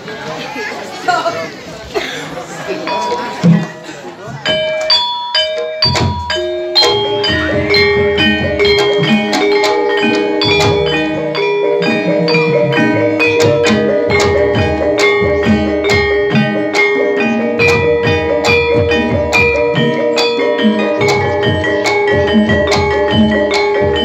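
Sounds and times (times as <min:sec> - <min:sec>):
metallophones ringing: 0:02.7 - 0:24.0.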